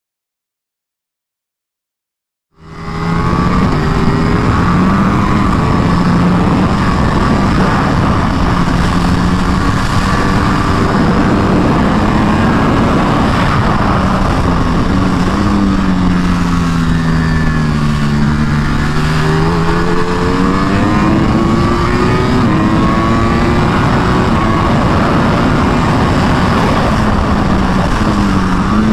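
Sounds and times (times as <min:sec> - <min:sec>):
motorcycle engine revving: 0:02.6 - 0:28.9
wind rush: 0:02.6 - 0:28.9.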